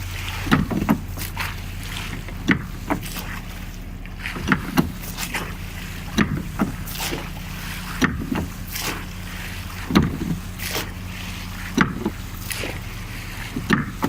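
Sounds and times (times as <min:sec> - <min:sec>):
oars knocking in rowlocks: 0:00.0 - 0:14.0
steady low hum: 0:00.0 - 0:14.0.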